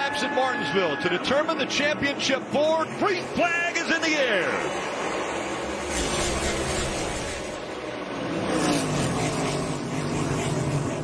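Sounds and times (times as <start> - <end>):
stock cars racing at full throttle: 0.0 - 11.0.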